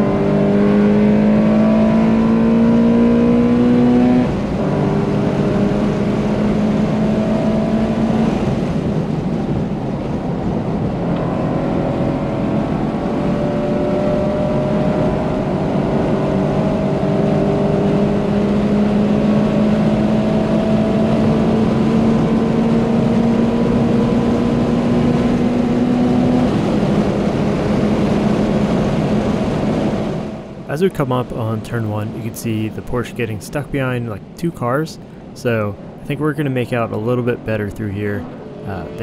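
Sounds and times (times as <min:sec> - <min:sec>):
car engine at high revs: 0:00.0 - 0:39.0.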